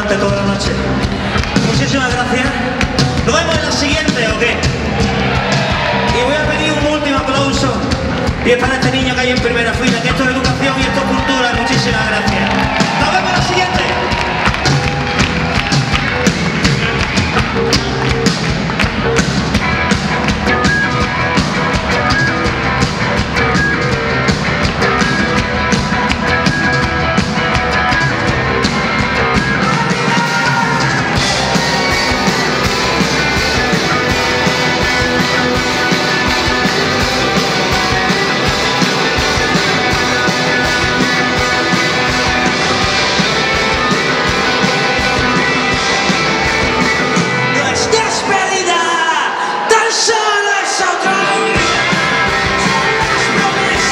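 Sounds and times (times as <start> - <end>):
drum kit: 0.0 - 48.9, 51.0 - 53.9
electric guitars: 0.0 - 49.7, 50.9 - 53.9.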